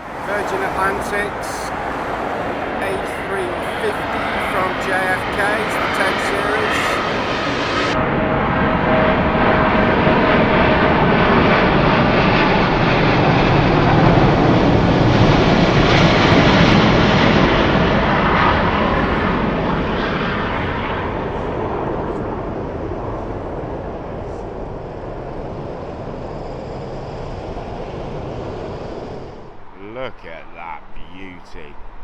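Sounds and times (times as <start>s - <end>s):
jet airliner roar: 0.0s - 32.0s.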